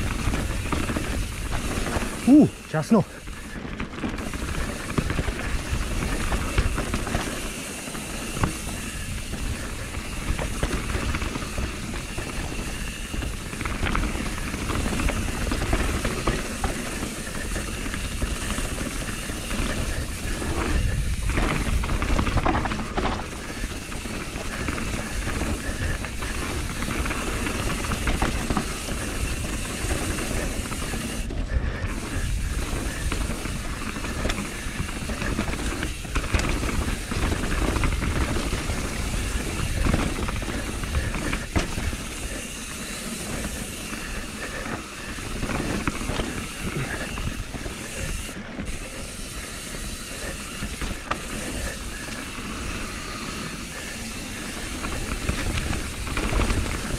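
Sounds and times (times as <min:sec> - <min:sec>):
wind rumbling on microphone: 0:00.0 - 0:02.6, 0:03.2 - 0:56.9
bike rattling and knocking: 0:00.0 - 0:56.9
tyres rushing on dirt: 0:00.0 - 0:56.9.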